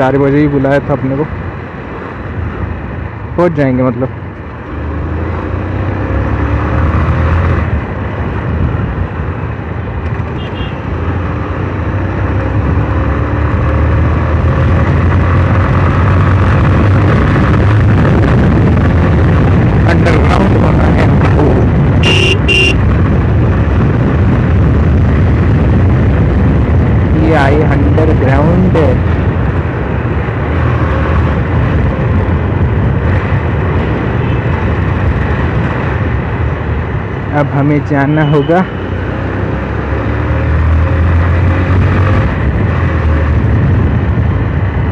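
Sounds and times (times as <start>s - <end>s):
motorcycle engine riding: 0.0s - 44.9s
road noise: 0.0s - 44.9s.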